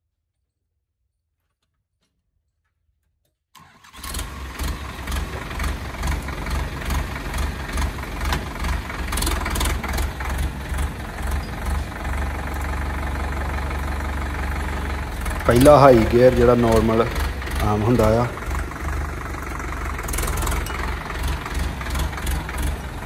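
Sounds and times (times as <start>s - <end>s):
tractor diesel engine running: 3.6s - 23.0s.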